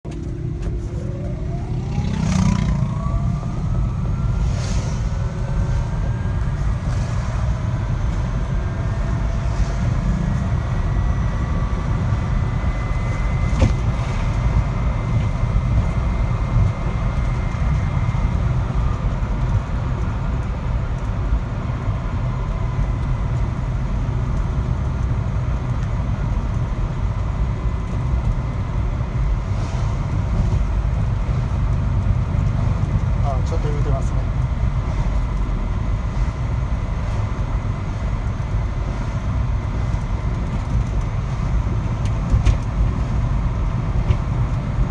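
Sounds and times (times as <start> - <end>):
vehicle engine rumble: 0.0 - 44.9.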